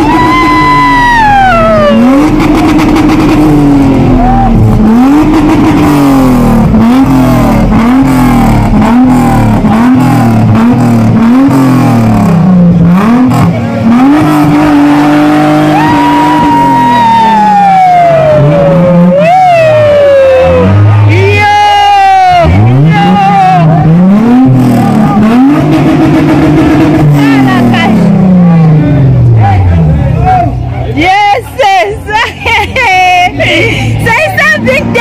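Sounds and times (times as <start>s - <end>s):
car engine revving: 0.0s - 31.0s, 31.6s - 35.0s.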